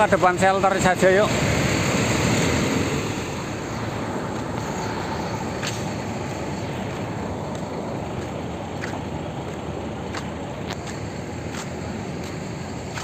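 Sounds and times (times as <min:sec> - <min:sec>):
buses and traffic running: 0:00.0 - 0:13.0.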